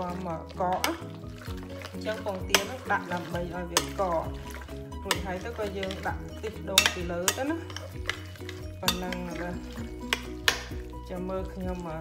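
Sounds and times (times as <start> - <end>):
background music with bass: 0.0 - 12.0
hand squishing fish in paste: 0.0 - 12.0.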